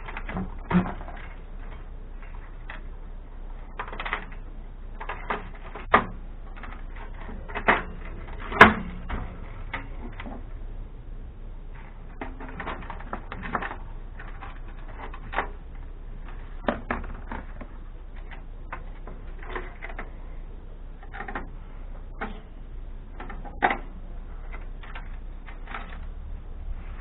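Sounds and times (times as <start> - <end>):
amplifier parts clicking and rattling: 0.0 - 10.8, 11.6 - 27.0
low steady hum: 0.0 - 27.0.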